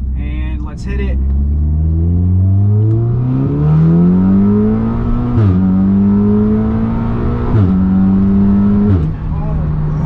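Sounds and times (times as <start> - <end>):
car engine at full throttle: 0.0 - 10.0.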